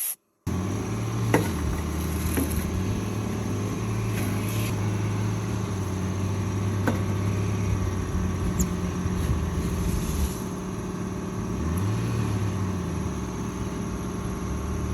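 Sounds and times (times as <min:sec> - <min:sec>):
engine running: 0:00.5 - 0:14.9.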